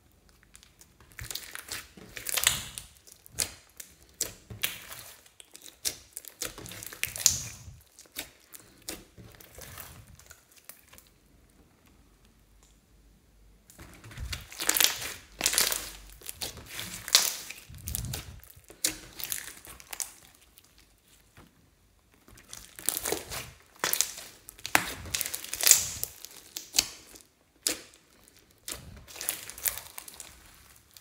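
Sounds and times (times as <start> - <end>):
slime squishing and crackling: 0.0 - 12.0, 13.7 - 31.0.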